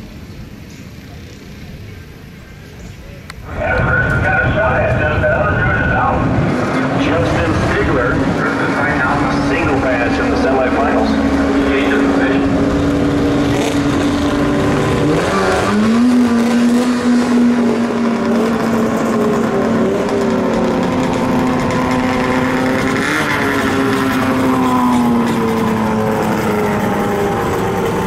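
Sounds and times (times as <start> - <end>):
snowmobile engine at full throttle: 3.5 - 28.0.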